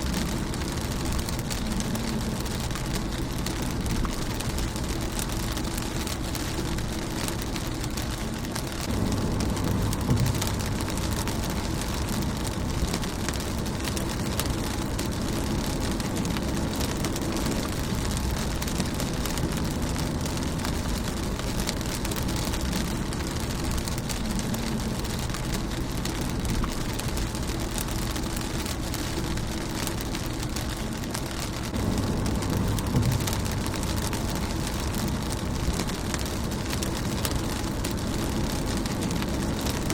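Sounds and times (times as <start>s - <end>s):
low rumble: 0.0s - 39.9s
rain on car windshield: 0.0s - 39.9s.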